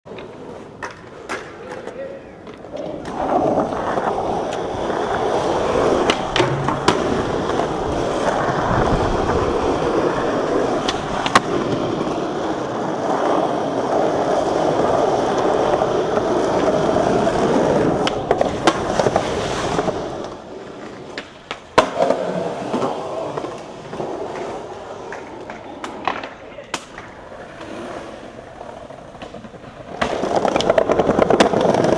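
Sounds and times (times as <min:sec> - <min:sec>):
skateboard tail clacks: 0:00.1 - 0:31.9
skateboard wheels rolling on asphalt: 0:00.1 - 0:31.9.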